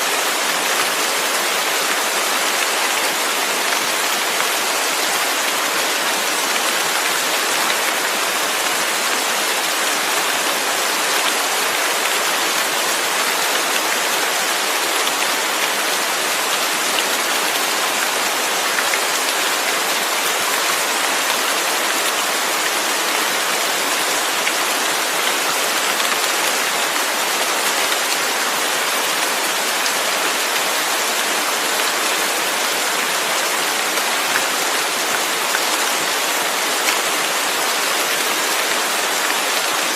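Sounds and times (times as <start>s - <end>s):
dense rain falling: 0.0s - 39.9s.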